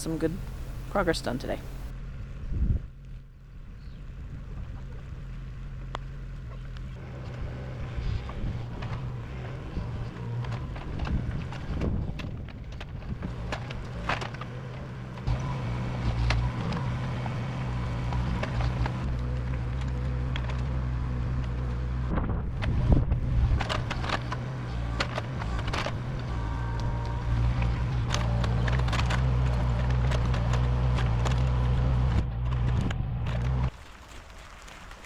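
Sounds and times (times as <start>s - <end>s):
engine running: 0.0s - 1.9s, 4.1s - 33.8s.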